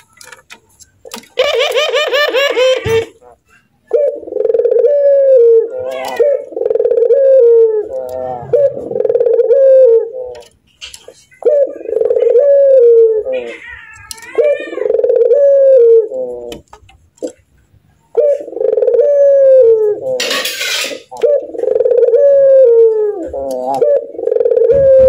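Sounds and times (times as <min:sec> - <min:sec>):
dove cooing: 0:01.4 - 0:10.5, 0:11.2 - 0:17.4, 0:18.1 - 0:25.0.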